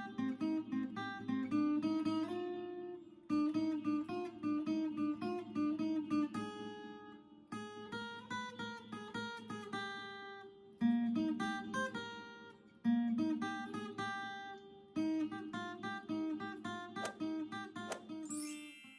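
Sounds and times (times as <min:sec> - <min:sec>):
acoustic guitar picked notes: 0:00.0 - 0:18.9.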